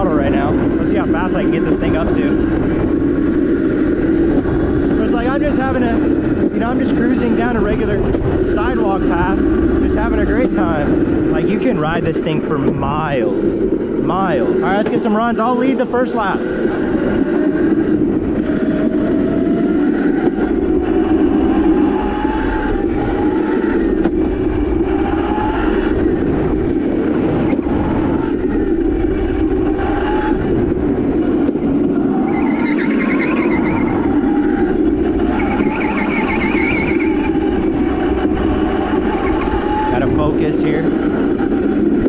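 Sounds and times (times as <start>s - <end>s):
electric motor whine: 0.0s - 42.0s
steady rushing noise: 0.0s - 42.0s.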